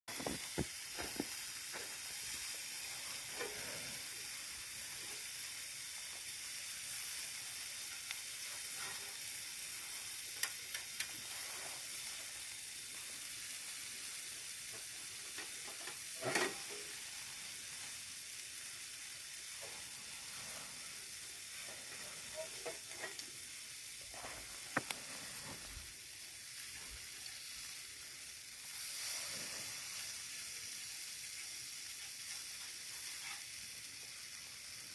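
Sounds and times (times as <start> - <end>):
meat sizzling in a pan: 0.1 - 34.9.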